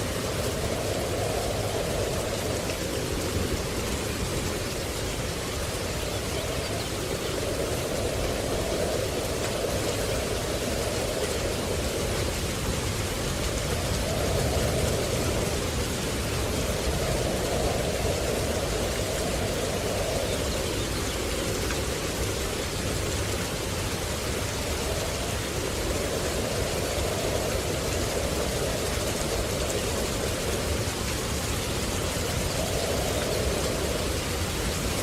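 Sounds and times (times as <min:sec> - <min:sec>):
rushing water: 0:00.0 - 0:35.0.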